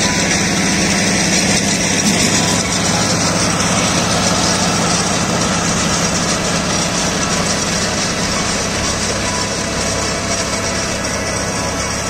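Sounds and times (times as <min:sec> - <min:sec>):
tractor diesel engine passing: 0:00.0 - 0:12.0.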